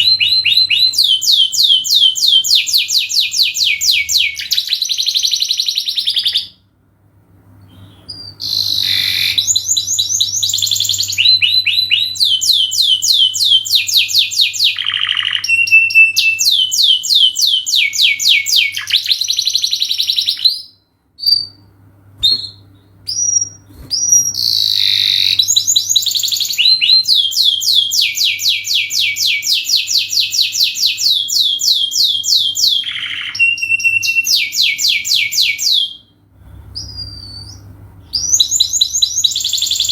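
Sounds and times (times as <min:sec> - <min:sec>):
canary singing trills: 0:00.0 - 0:06.6, 0:07.7 - 0:36.1, 0:36.8 - 0:39.9
faint low hum: 0:00.0 - 0:39.9.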